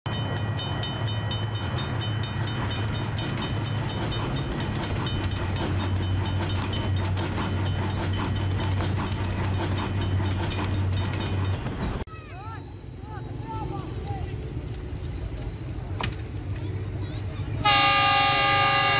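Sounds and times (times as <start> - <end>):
train rumble: 0.1 - 18.9.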